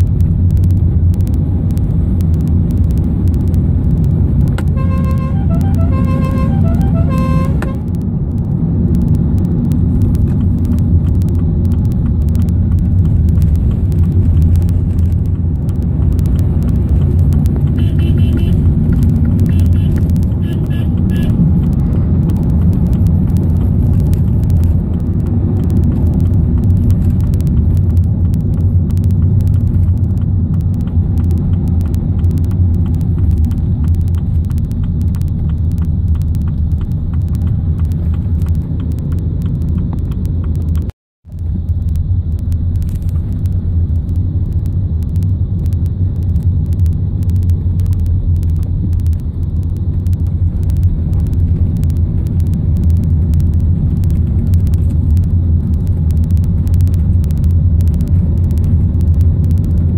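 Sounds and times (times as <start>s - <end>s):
van engine and road noise: 0.0s - 59.9s.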